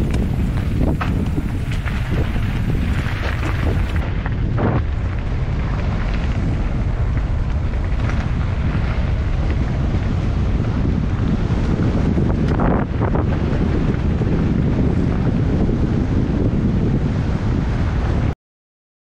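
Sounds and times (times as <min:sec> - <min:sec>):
bike tyres crunching on gravel: 0:00.0 - 0:15.4
wind buffeting microphone: 0:00.0 - 0:18.4.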